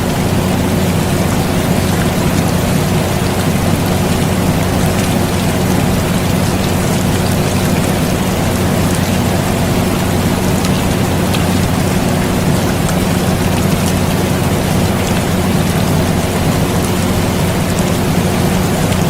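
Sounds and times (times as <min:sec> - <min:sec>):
air conditioner hum: 0:00.0 - 0:19.0
rain hiss: 0:00.0 - 0:19.0.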